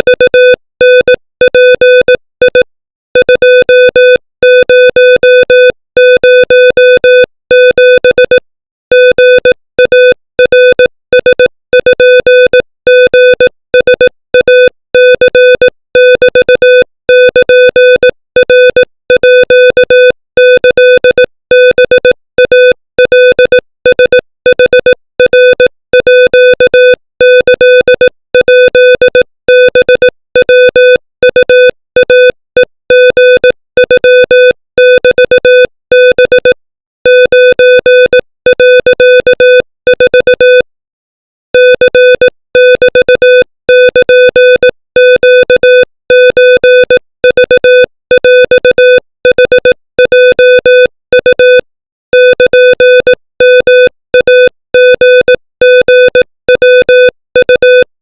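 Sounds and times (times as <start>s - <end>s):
morse code tone: 0.0s - 40.7s, 41.5s - 58.0s.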